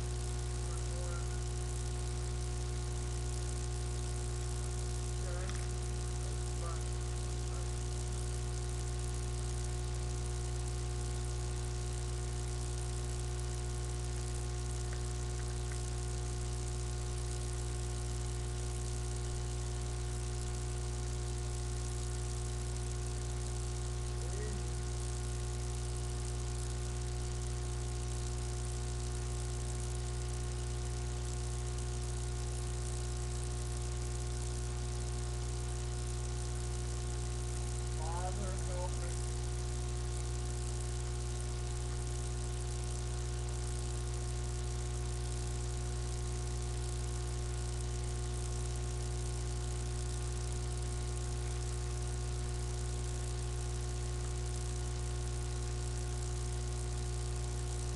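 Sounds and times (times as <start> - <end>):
electrical mains hum: 0.0 - 57.9.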